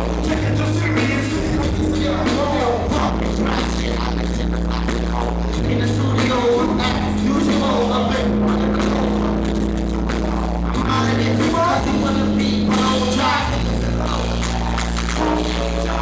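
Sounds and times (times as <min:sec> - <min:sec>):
hip-hop beat with deep bass: 0:00.0 - 0:16.0
people rapping: 0:00.0 - 0:16.0.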